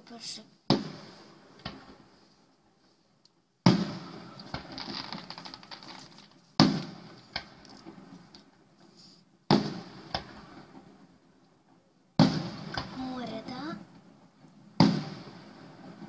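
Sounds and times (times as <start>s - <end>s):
firework shells bursting: 0.0s - 2.3s, 3.6s - 16.0s
firework crackles: 0.0s - 2.5s, 3.6s - 11.3s, 12.1s - 16.0s.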